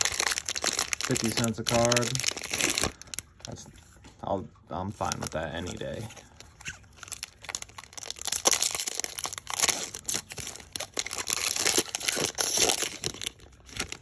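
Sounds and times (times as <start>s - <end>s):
foil wrapper crinkling and ripping: 0.0s - 3.7s, 5.0s - 14.0s.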